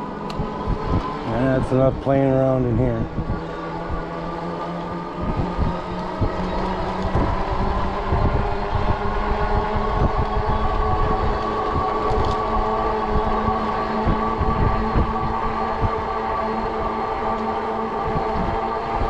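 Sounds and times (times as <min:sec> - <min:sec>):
bike tires rumbling on path: 0:00.0 - 0:19.0
electric motor whine: 0:00.0 - 0:19.0.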